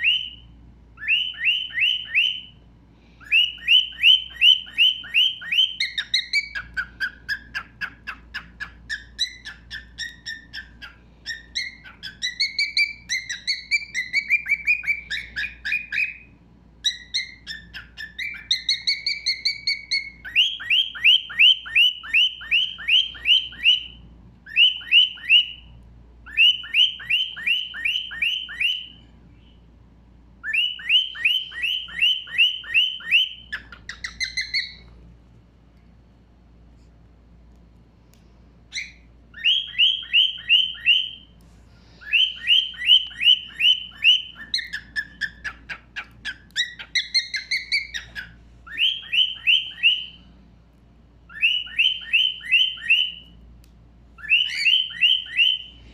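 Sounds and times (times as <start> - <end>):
bird whistled trills: 0.0 - 2.6, 3.2 - 25.7, 26.3 - 29.6, 30.4 - 34.8, 38.7 - 41.3, 42.0 - 50.2, 51.3 - 53.4, 54.2 - 55.8.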